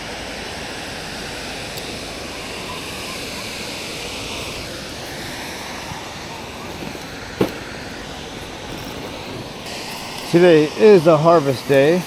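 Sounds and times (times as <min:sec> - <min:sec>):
river water rushing: 0:01.7 - 0:12.0.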